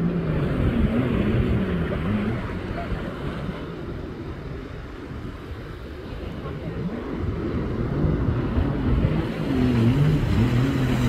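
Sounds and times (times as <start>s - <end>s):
surf: 0.0s - 11.0s
watercraft engine running: 0.0s - 11.0s
wind: 0.0s - 11.0s.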